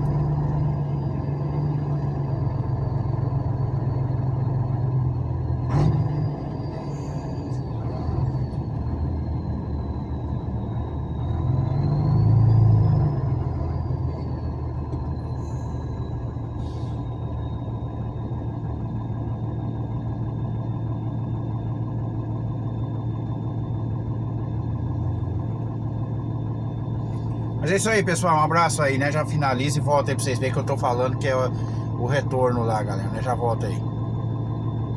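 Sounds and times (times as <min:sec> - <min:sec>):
truck engine droning: 0:00.0 - 0:34.9.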